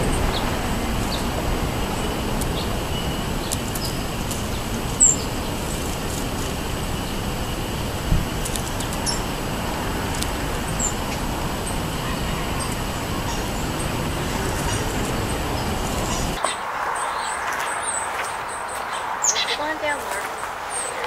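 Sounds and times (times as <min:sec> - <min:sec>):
high bird chirps: 0:00.0 - 0:09.4, 0:10.2 - 0:21.0
background traffic noise: 0:00.0 - 0:21.0.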